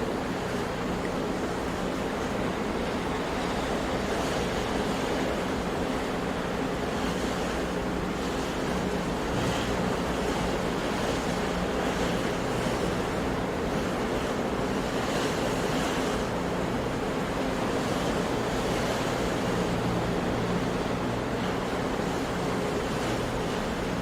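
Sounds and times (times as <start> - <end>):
sea waves washing on shore: 0.0 - 24.0.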